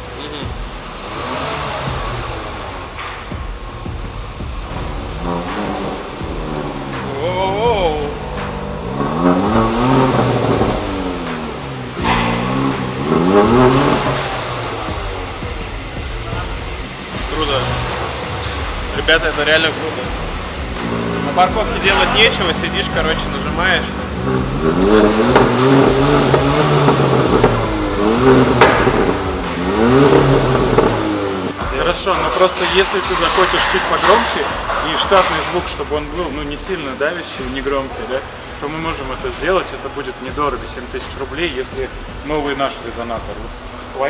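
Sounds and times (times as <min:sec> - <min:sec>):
car engine revving: 0:00.0 - 0:44.0
exhaust crack: 0:00.0 - 0:44.0.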